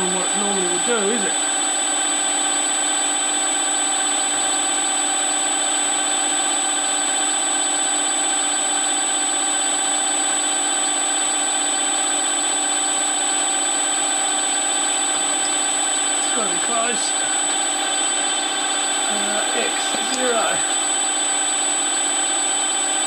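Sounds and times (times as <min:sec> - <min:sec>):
milling machine spindle whine: 0:00.0 - 0:23.0.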